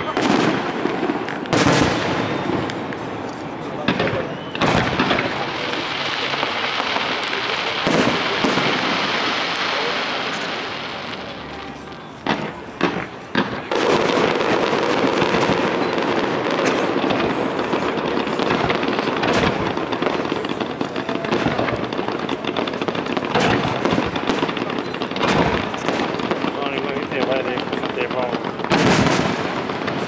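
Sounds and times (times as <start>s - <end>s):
firework bangs: 0.0s - 30.0s
fireworks crackling: 0.0s - 30.0s.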